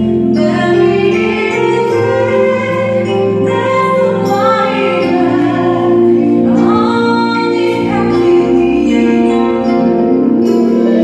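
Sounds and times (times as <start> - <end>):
musical accompaniment: 0.0 - 11.0
woman singing slow song: 0.1 - 11.0.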